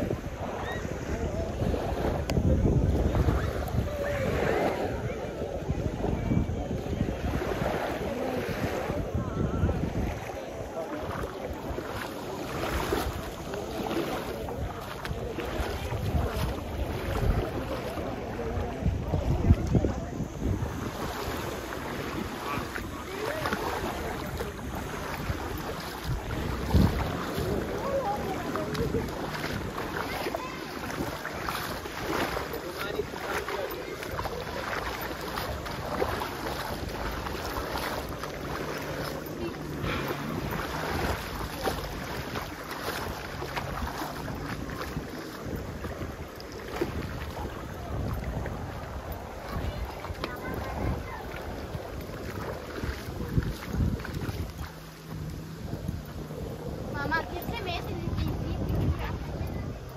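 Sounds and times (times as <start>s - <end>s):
sea washing on beach: 0.0s - 59.9s
wind gusting on microphone: 0.0s - 59.9s.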